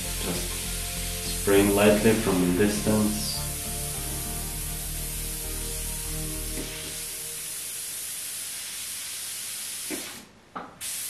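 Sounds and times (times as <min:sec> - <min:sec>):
airbrush air hiss: 0:00.0 - 0:11.0.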